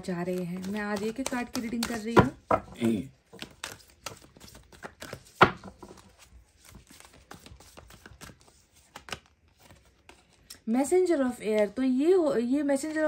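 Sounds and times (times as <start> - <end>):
cards being shuffled: 0.1 - 10.6.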